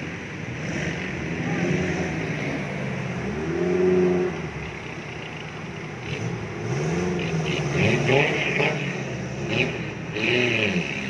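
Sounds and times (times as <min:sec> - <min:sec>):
rushing water: 0:00.0 - 0:10.2
off-road engine revving: 0:00.0 - 0:11.0.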